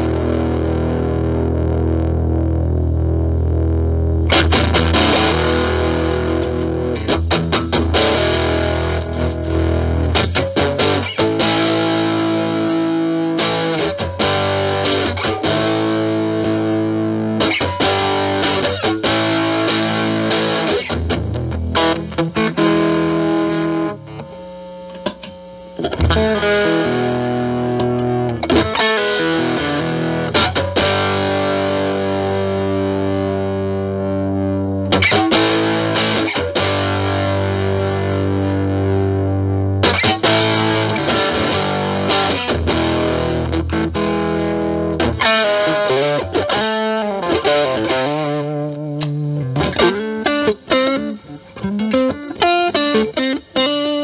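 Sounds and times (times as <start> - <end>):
distorted electric guitar chords: 0.0 - 54.0.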